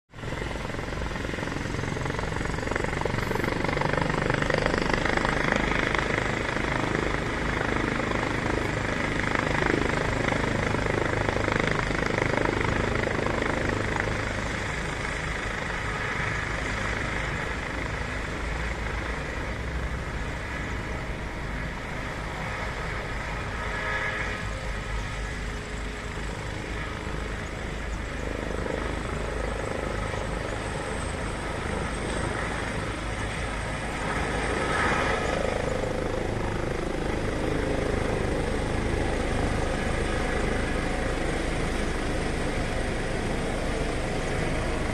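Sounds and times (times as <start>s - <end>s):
helicopter rotor and turbine: 0.1s - 44.9s.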